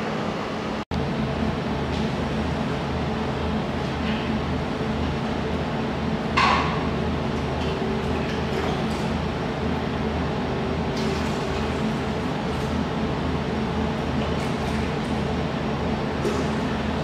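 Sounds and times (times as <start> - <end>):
water chiller humming: 0.0 - 17.0.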